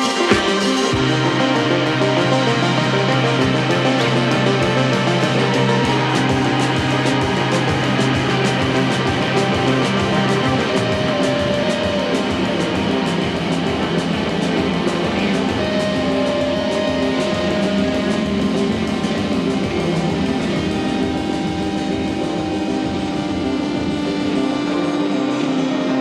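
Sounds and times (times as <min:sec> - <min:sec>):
instrumental guitar music with beat: 0:00.0 - 0:26.0.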